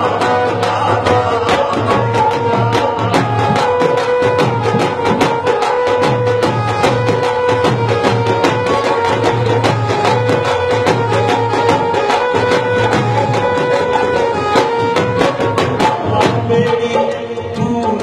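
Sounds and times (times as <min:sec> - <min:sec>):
dhol drum fast beat: 0:00.0 - 0:18.0.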